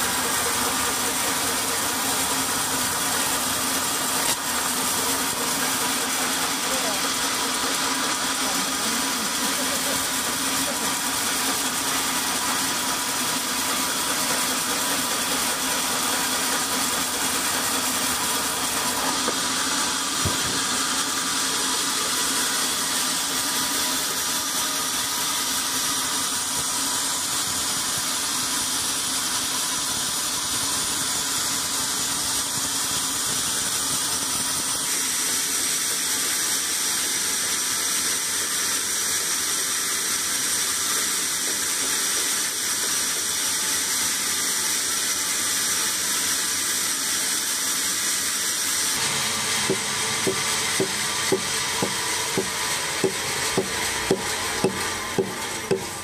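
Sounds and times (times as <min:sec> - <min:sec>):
band saw whining drone: 0:00.0 - 0:38.4, 0:48.2 - 0:56.0.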